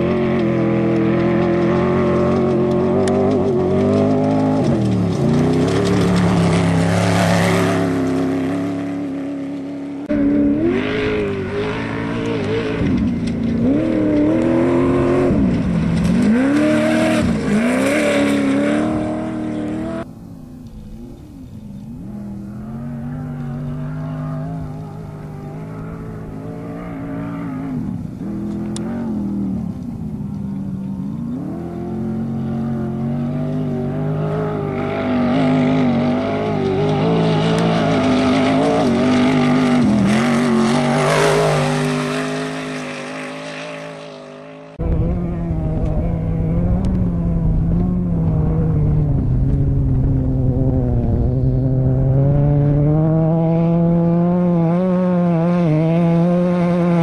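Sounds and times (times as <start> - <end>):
off-road vehicle engines revving: 0.0 - 57.0
vehicle passing: 0.0 - 57.0.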